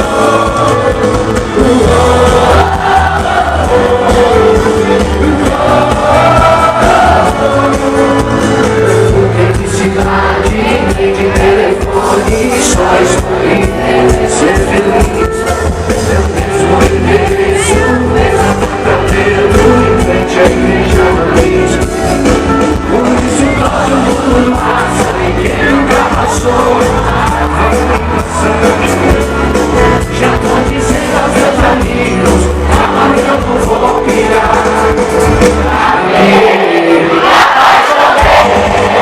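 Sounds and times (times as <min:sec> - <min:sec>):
crowd cheering and shouting: 0:00.0 - 0:39.0
live pop band playing: 0:00.0 - 0:39.0
person singing lead vocal: 0:00.0 - 0:39.0.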